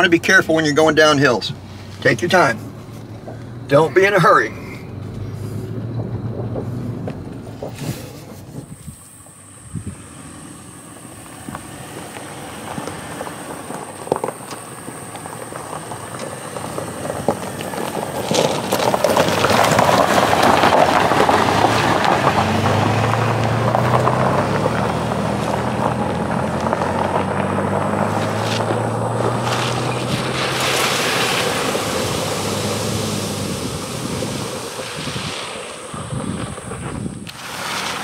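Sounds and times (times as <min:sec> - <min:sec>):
vehicle driving on gravel: 0:00.0 - 0:38.0
low engine drone: 0:01.4 - 0:38.0.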